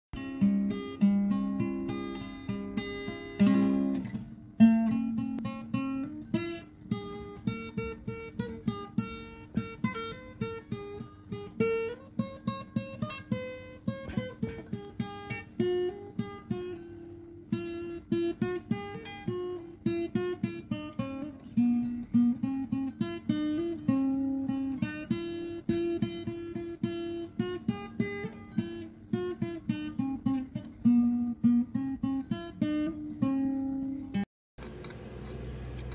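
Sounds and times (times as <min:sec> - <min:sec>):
plucked guitar melody: 0:00.2 - 0:34.3.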